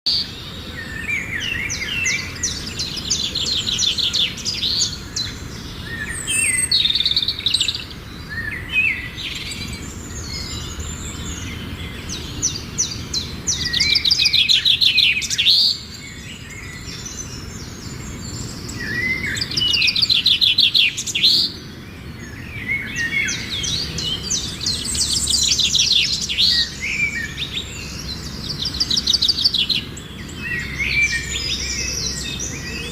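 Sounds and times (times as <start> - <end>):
bird chirps: 0.1 - 32.9
songbirds singing trilled phrases: 0.1 - 32.9.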